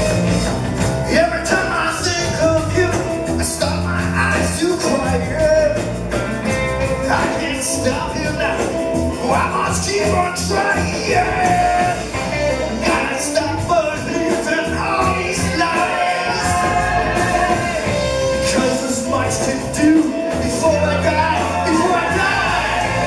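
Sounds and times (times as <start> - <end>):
live rock band playing: 0.0 - 23.0
person singing: 1.1 - 5.9, 6.8 - 23.0.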